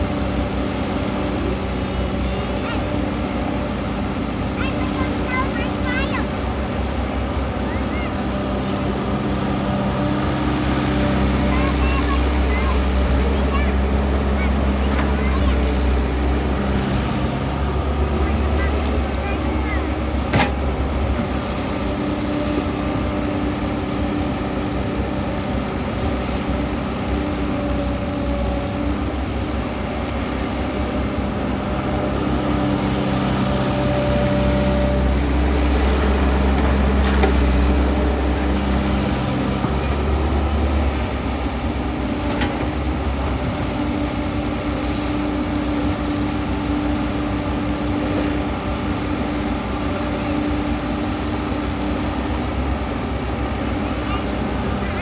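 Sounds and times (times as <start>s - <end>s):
digging machine engine: 0.0s - 55.0s.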